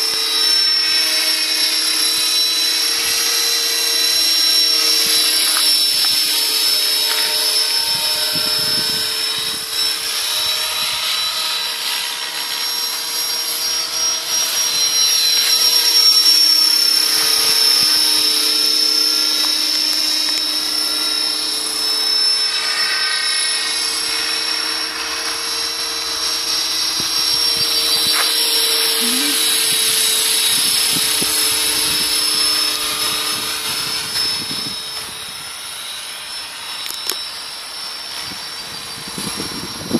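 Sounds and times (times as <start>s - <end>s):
model helicopter whine and rotor: 0.0s - 39.9s.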